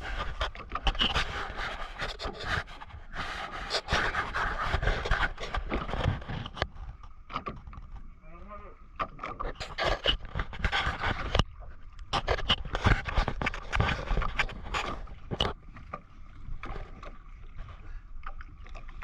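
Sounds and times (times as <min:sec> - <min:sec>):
knocks and clatter on boat: 0:00.0 - 0:08.2, 0:08.9 - 0:19.0
low rumble of water: 0:00.0 - 0:19.0
wind: 0:00.0 - 0:19.0.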